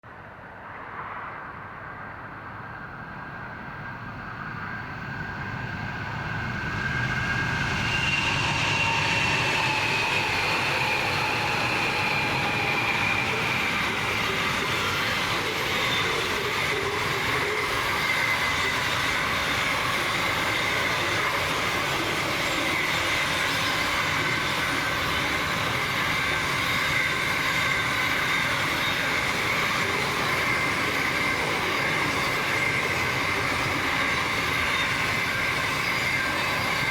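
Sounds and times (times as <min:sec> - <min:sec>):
freight train rumbling past: 0:00.1 - 0:36.9
high wheel squeal: 0:04.6 - 0:36.9.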